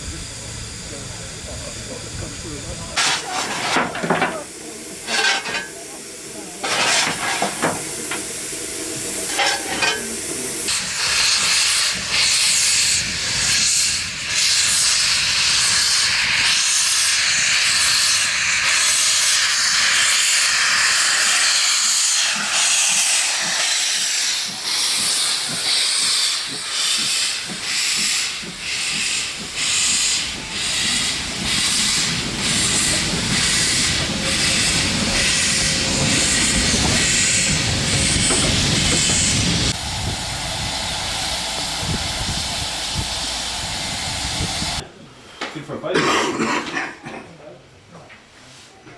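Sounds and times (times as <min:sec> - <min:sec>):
steam locomotive hissing: 0:00.0 - 0:45.3.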